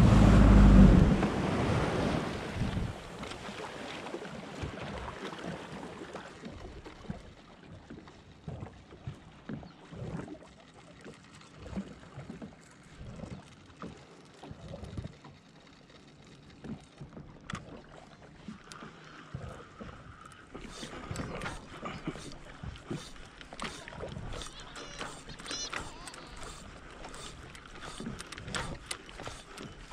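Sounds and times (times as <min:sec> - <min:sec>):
waves slapping against hull: 0:00.0 - 0:29.9.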